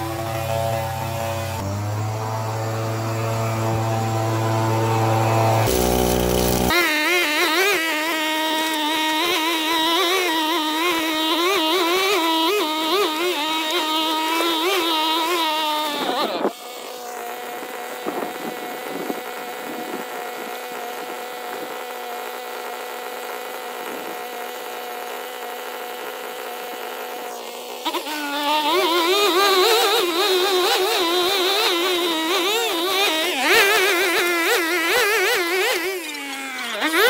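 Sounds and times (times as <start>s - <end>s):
small petrol engine running: 0.0s - 37.0s.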